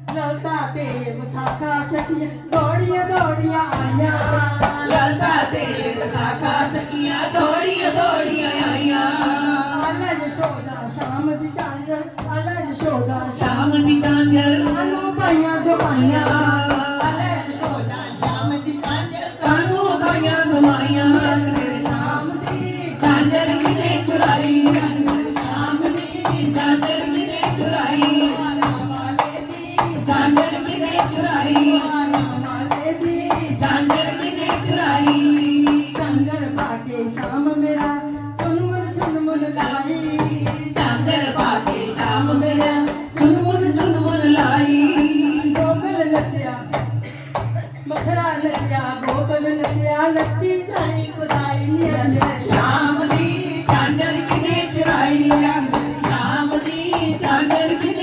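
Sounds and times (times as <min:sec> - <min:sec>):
hand percussion rhythm: 0:00.0 - 0:58.0
women singing devotional song: 0:00.0 - 0:58.0.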